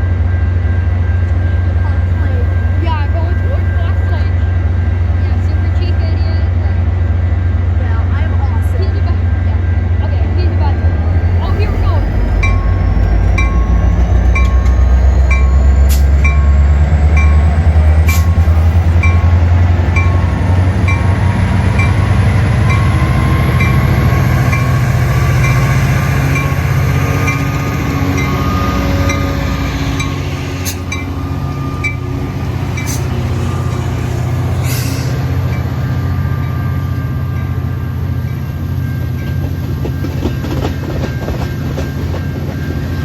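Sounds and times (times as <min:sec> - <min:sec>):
locomotive bell dinging: 0:00.0 - 0:06.9, 0:07.8 - 0:43.0
train rumble: 0:00.0 - 0:43.0.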